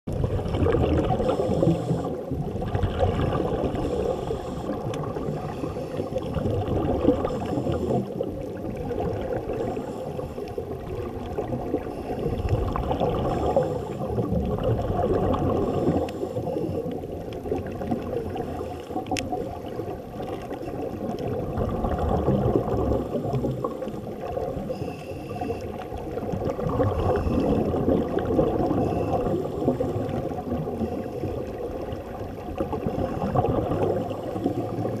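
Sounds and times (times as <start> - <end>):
muffled underwater rumble: 0.0 - 35.0
gurgling regulator bubbles: 0.1 - 35.0.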